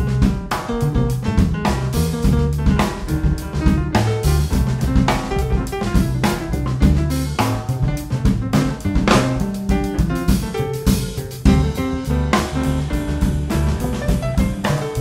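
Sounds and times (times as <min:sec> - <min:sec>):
bass line: 0:00.0 - 0:15.0
piano chords: 0:00.0 - 0:15.0.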